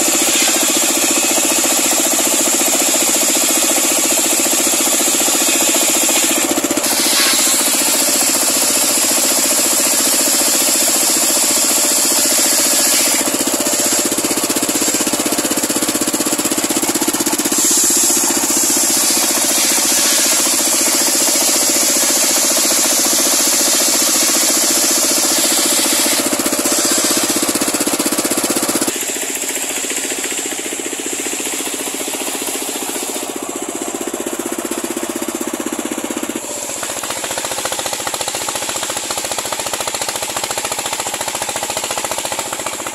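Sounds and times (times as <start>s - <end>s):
circular sawmill cutting log: 0.0s - 42.9s.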